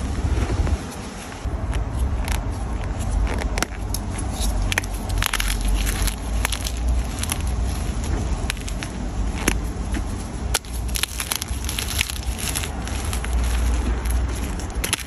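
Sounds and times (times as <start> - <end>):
wind rumble on microphone: 0.0 - 15.0
chalk crackling and crunching: 0.3 - 15.0.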